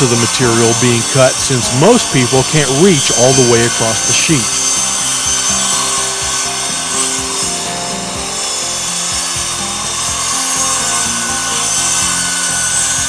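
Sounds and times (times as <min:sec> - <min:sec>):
circular saw cutting plywood: 0:00.0 - 0:13.0.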